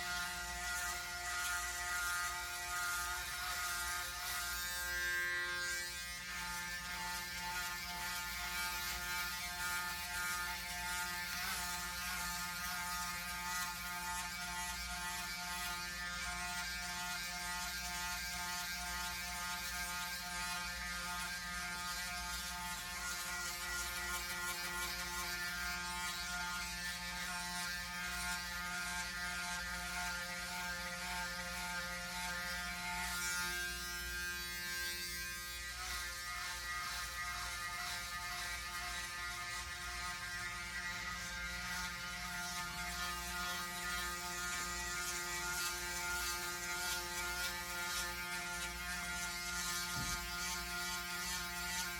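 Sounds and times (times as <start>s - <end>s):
electric shaver buzzing: 0.0s - 51.9s.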